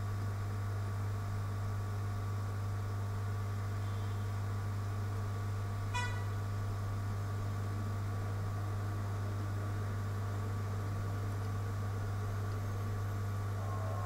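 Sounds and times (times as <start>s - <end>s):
electrical hum with hiss: 0.0s - 14.0s.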